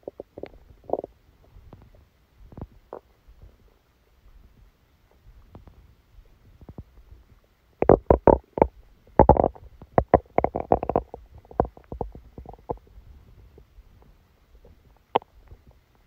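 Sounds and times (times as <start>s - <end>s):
stomach gurgling: 0.0s - 3.6s, 6.4s - 15.9s.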